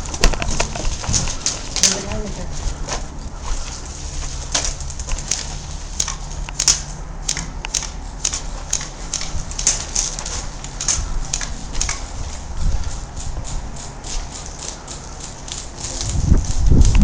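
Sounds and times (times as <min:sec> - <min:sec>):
footsteps on gritty ground: 0:00.0 - 0:06.9, 0:07.8 - 0:17.0
light rustle and rattle: 0:00.0 - 0:07.0, 0:08.0 - 0:17.0.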